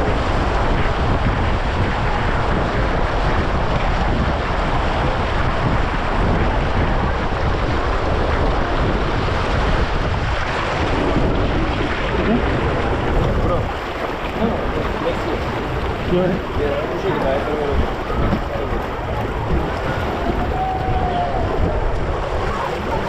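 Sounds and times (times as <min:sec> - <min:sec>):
water rushing down a slide: 0:00.0 - 0:23.0
wind buffeting microphone: 0:00.0 - 0:23.0.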